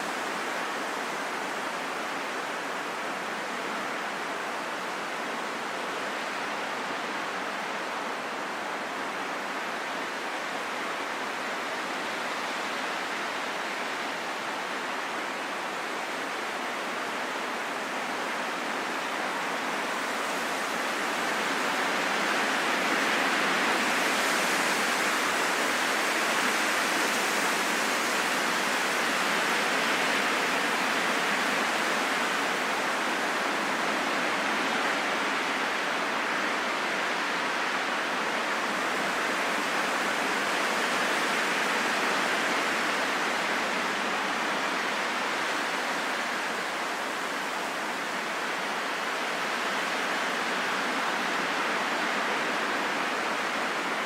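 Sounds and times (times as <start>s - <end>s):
steady wind noise: 0.0s - 54.0s.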